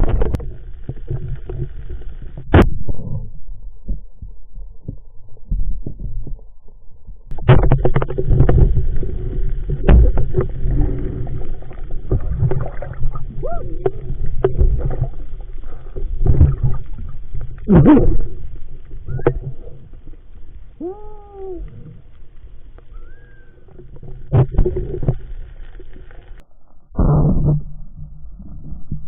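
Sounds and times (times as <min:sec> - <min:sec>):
muffled underwater sloshing: 0:00.0 - 0:26.4.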